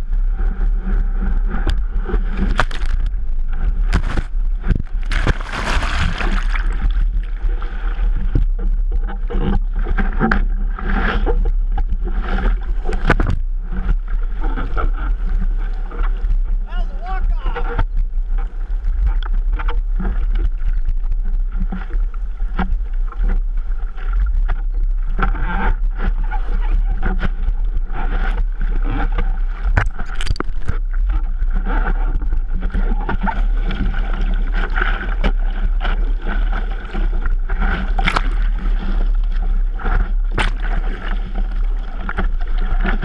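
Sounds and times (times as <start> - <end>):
low rumble: 0.0 - 43.0
seawater sloshing and splashing: 0.2 - 43.0.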